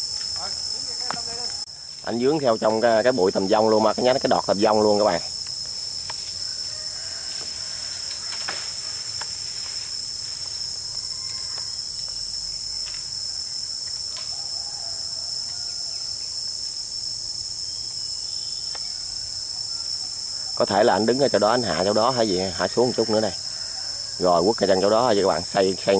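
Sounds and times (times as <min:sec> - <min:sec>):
insects shrilling: 0:00.0 - 0:25.9.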